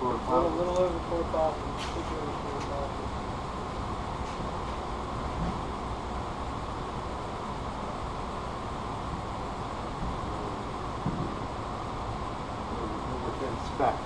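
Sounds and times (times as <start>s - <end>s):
steady machine noise: 0.0s - 14.0s.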